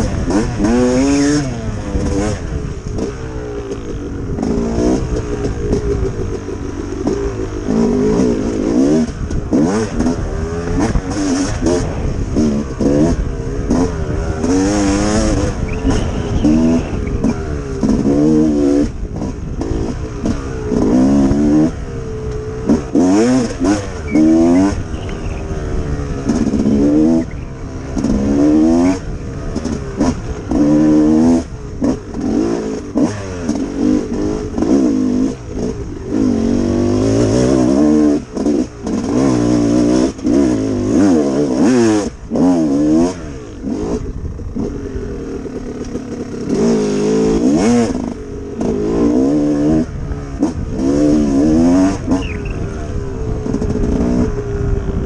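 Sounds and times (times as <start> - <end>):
bike moving over trail: 0.0 - 55.0
dirt bike engine revving: 0.0 - 55.0.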